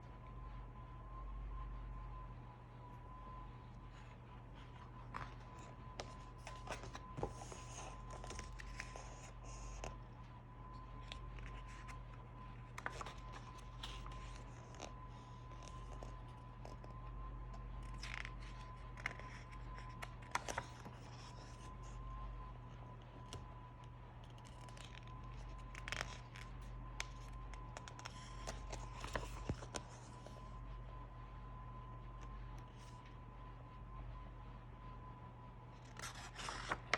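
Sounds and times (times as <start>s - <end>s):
electrical hum: 0.0s - 36.9s
faint high whine: 0.0s - 36.9s.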